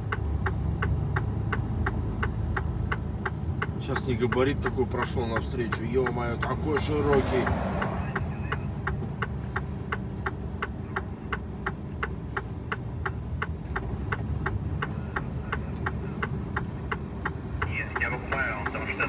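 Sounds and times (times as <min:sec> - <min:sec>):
diesel engine rumbling: 0:00.0 - 0:19.0
turn signal ticking: 0:00.0 - 0:19.0.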